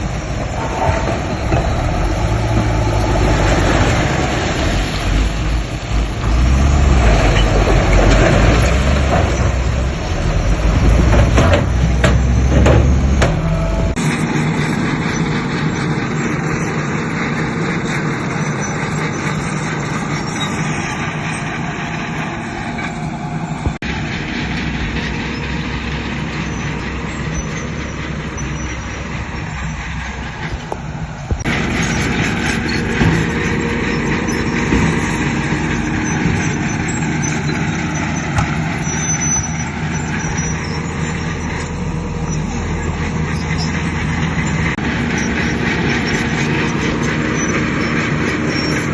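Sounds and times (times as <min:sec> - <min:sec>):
diesel earthmoving machinery running: 0:00.0 - 0:48.9.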